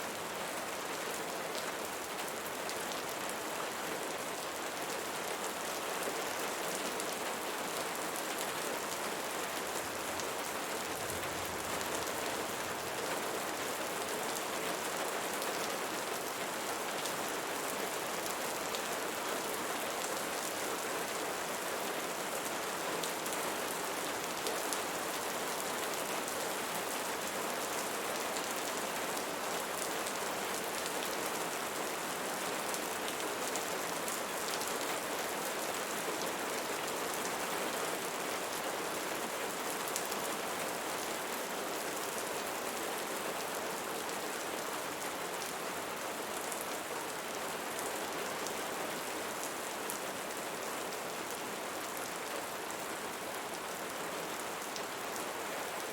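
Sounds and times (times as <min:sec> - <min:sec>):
rain falling on a surface: 0:00.0 - 0:55.9.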